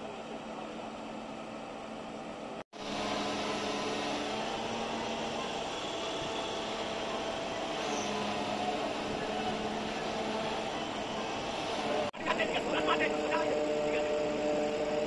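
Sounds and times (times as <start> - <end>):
crane diesel engine droning: 0.0 - 15.0.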